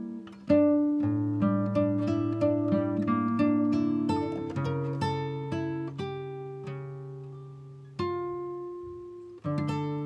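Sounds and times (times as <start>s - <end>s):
plucked guitar notes: 0.0s - 10.0s.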